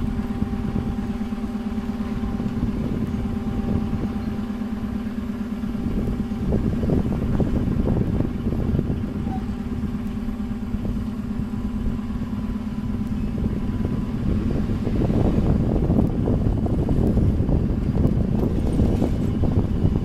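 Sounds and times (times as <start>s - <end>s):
steady hum: 0.0s - 20.0s
train coaches rumbling on track: 0.0s - 20.0s.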